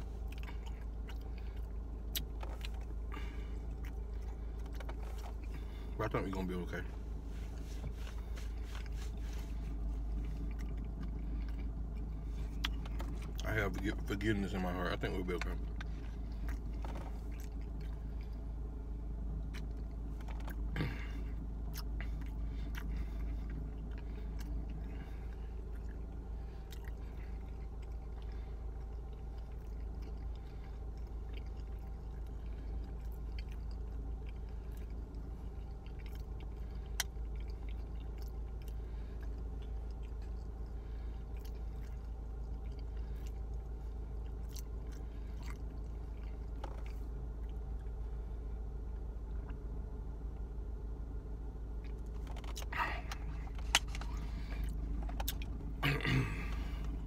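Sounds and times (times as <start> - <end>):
person chewing food: 0.0 - 49.7, 51.8 - 57.0
low car cabin hum: 0.0 - 57.0.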